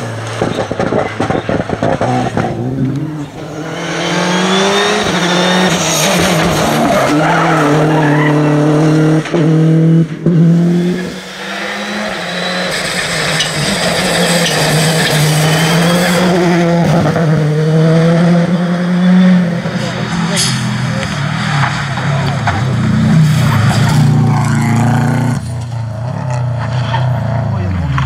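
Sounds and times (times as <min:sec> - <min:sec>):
rally car approaching at high revs: 0:00.0 - 0:28.0
rally car engine revving: 0:00.0 - 0:28.0.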